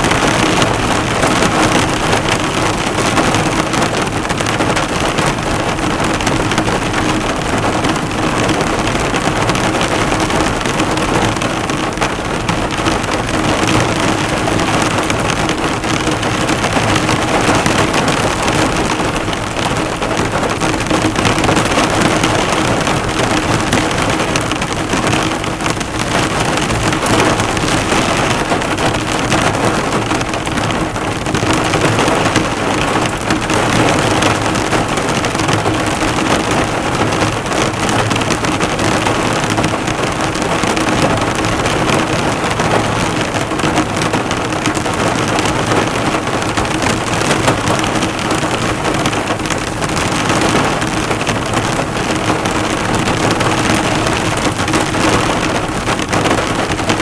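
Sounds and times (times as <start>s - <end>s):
heavy rain on a car body: 0.0s - 57.0s.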